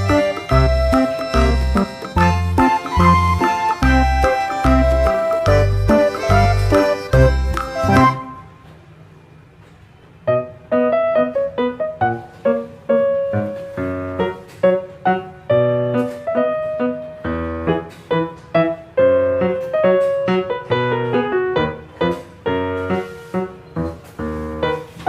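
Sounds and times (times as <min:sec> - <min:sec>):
bouncy piano music: 0:00.0 - 0:08.6, 0:10.2 - 0:25.0.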